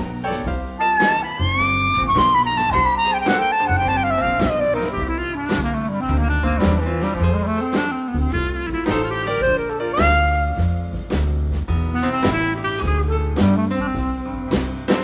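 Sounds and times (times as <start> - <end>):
bass and drum kit: 0.0 - 15.0
jazz horn melody: 0.0 - 15.0.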